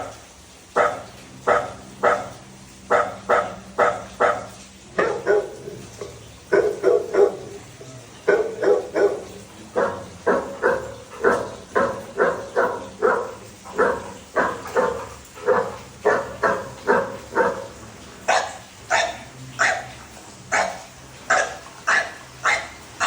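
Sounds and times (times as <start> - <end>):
dog barking: 0.7 - 23.0.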